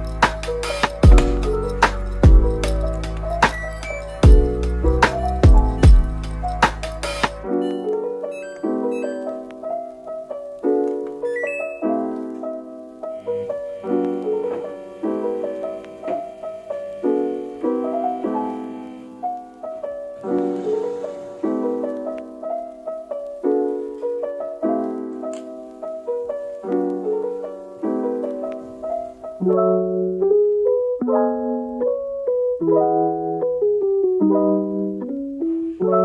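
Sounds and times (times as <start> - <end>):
lofi piano melody: 0.0 - 36.0.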